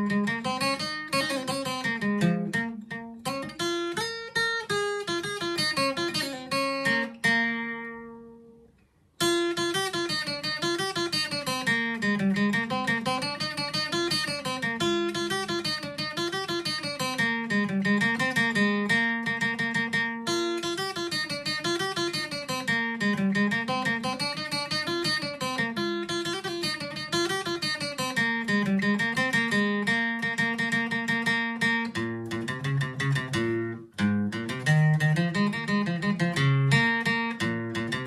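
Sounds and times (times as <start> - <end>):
acoustic guitar picking: 0.0 - 38.0.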